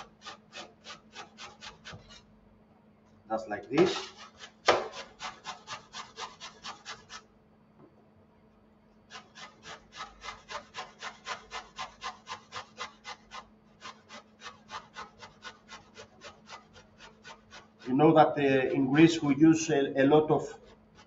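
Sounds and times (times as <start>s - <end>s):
zucchini rasping on a grater: 0.0s - 2.3s, 3.7s - 7.2s, 9.1s - 21.0s.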